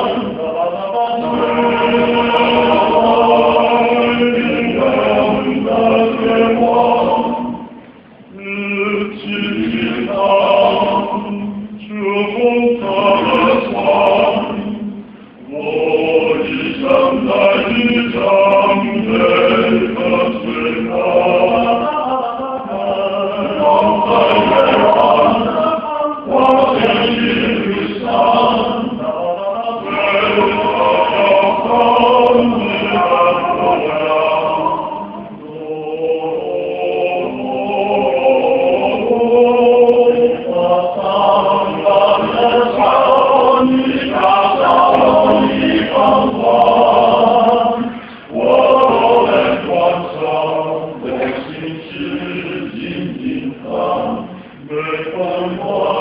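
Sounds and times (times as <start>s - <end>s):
male vocal ensemble singing: 0.0s - 56.0s.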